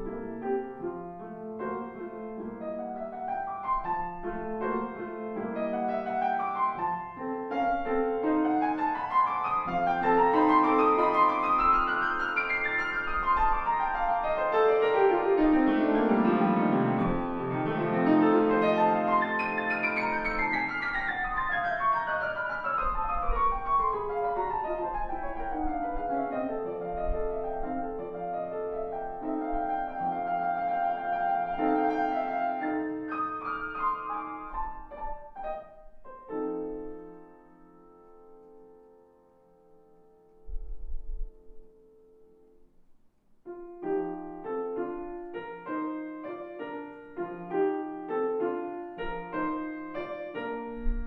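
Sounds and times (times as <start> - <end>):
classical piano playing: 0.0 - 42.8, 43.4 - 51.0.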